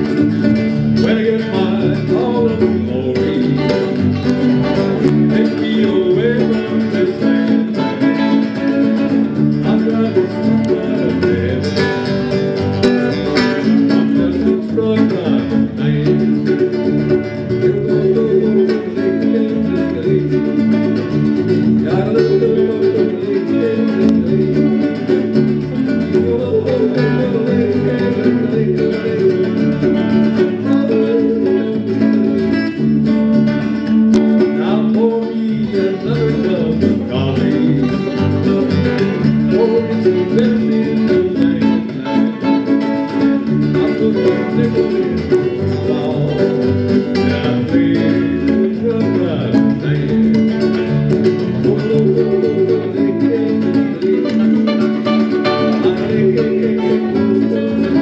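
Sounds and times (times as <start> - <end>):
guitars picking and strumming: 0.0 - 58.0
live country band: 0.0 - 58.0.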